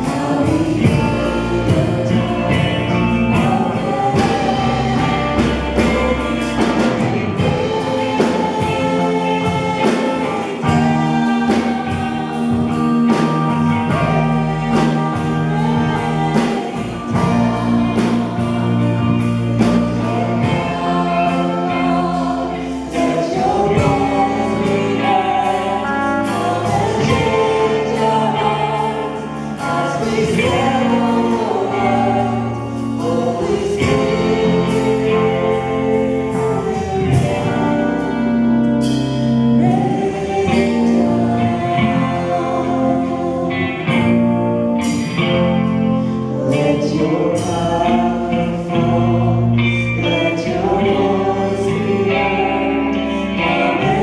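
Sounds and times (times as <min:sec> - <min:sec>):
instrumental accompaniment: 0:00.0 - 0:54.0
voices singing together: 0:00.0 - 0:54.0.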